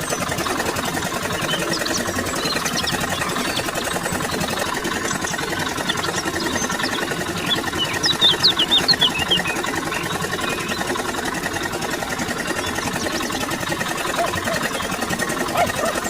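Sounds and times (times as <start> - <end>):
small motor rattling: 0.0 - 16.0.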